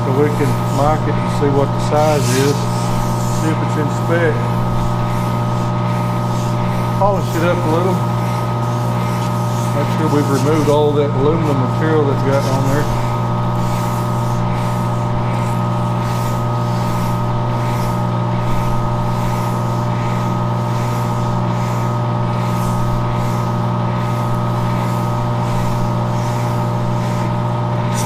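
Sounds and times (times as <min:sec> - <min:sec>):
lathe motor hum: 0:00.0 - 0:28.0
sandpaper scratching on metal: 0:00.0 - 0:28.0.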